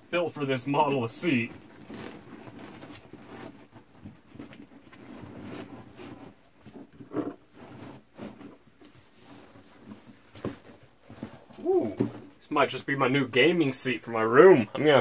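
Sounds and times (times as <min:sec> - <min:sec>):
vinyl rustling and rubbing: 0:00.1 - 0:12.5.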